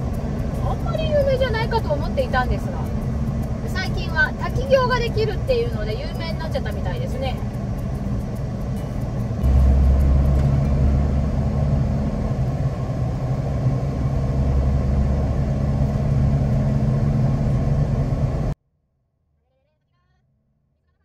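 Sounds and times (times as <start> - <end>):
car engine and road noise: 0.0 - 18.6.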